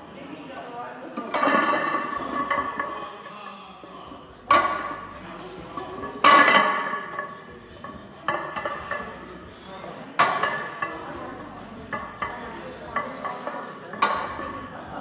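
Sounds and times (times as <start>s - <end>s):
barbell plates clanking: 1.2s - 3.1s, 4.4s - 14.8s.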